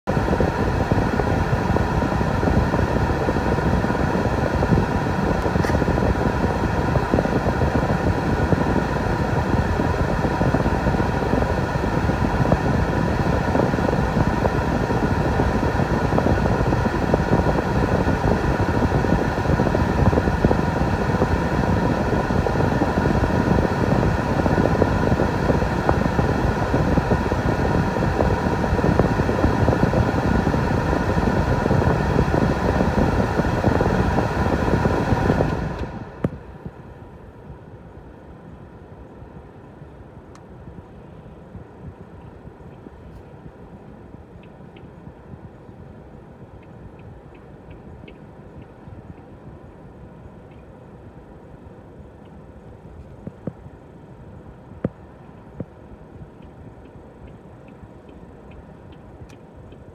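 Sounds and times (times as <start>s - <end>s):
blower fan running: 0.0s - 59.9s.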